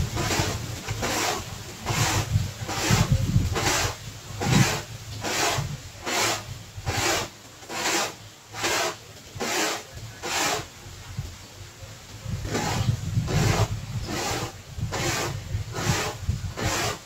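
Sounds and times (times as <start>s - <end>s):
corn grated on a grater: 0.0s - 10.8s, 12.4s - 17.0s.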